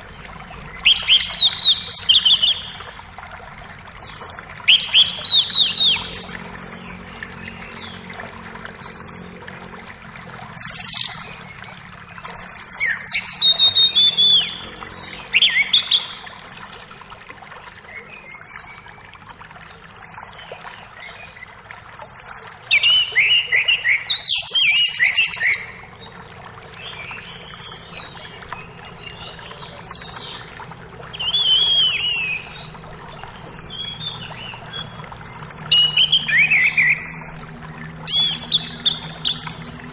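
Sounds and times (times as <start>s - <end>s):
birds chirping and trilling: 0.0s - 39.9s
flowing creek: 0.0s - 39.9s.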